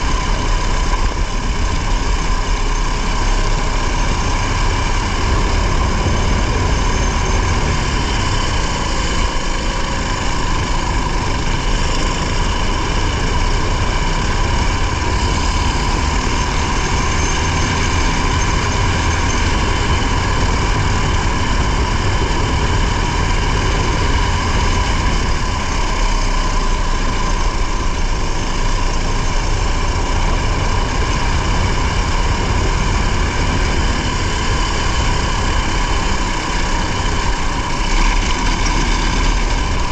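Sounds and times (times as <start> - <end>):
car engine rumbling inside cabin: 0.0 - 39.9.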